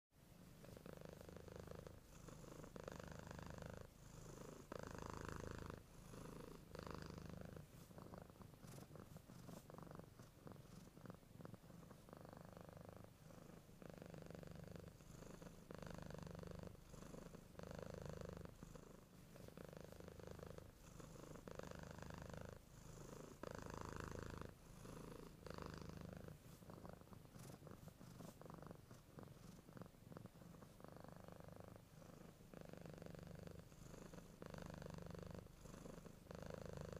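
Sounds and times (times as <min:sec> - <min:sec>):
cat purring: 0:00.2 - 0:36.9.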